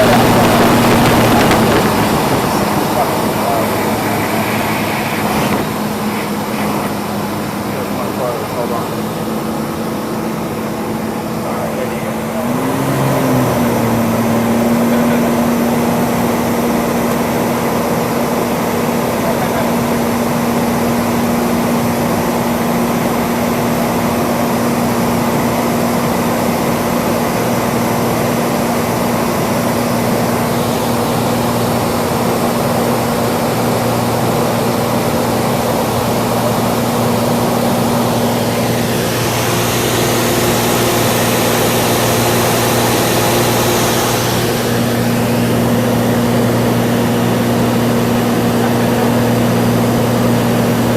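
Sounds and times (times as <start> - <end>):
propeller plane engine droning: 0.0 - 50.9.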